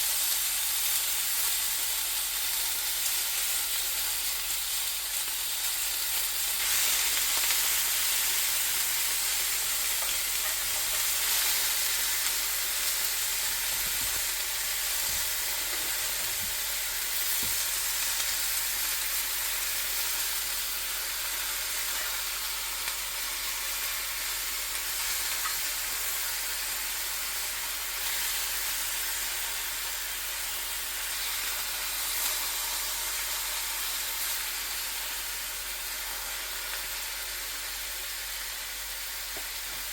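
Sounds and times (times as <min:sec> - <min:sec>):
bacon sizzling in a frying pan: 0:00.0 - 0:39.9.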